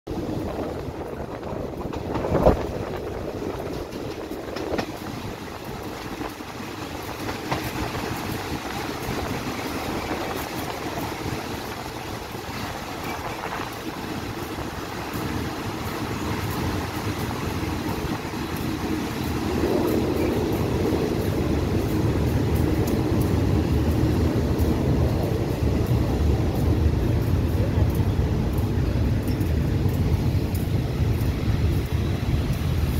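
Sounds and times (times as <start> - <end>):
train wheels rumbling on rails: 0.1 - 32.9.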